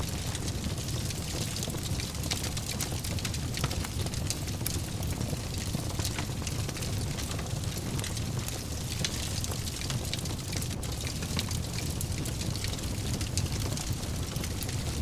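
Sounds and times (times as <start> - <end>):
low rumble of fire: 0.0 - 15.0
wood fire crackling and popping: 0.0 - 15.0.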